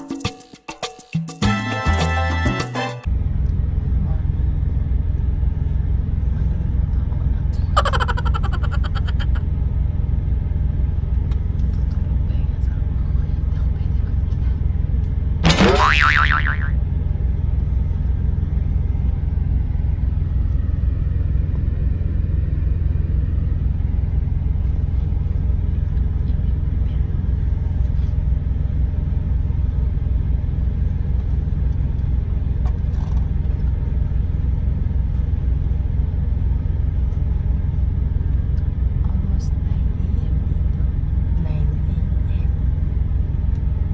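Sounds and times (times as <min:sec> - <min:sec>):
truck engine droning: 0:03.1 - 0:43.9.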